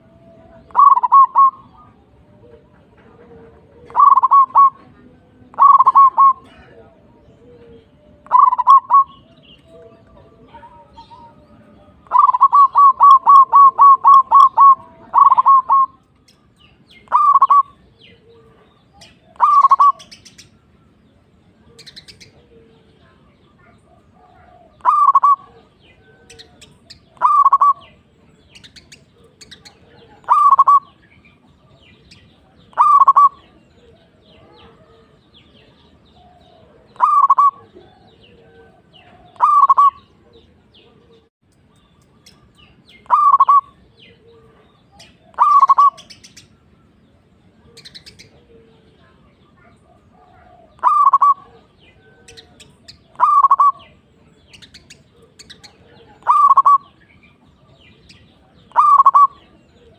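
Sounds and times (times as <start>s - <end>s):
dove cooing: 0.0s - 16.0s, 17.0s - 20.3s, 21.5s - 31.0s, 32.4s - 41.3s, 43.0s - 46.2s, 47.5s - 54.2s, 54.8s - 57.0s, 57.7s - 59.9s
small birds chirping: 0.0s - 59.9s.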